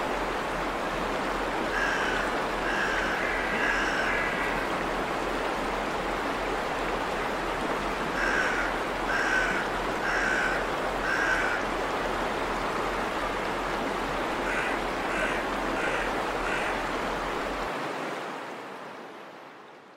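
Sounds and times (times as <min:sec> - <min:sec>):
water rushing over a weir: 0:00.0 - 0:19.9.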